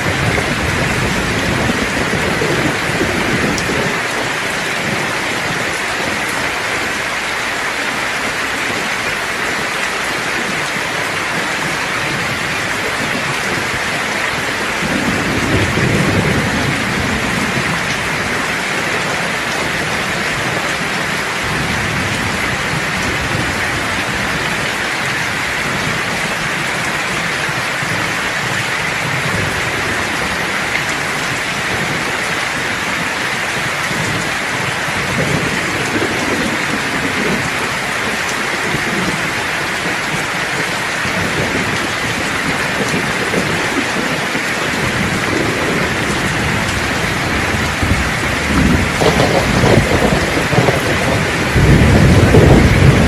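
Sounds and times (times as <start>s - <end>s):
heavy rain hissing: 0.0s - 53.0s
thunder rumbling: 0.0s - 53.0s.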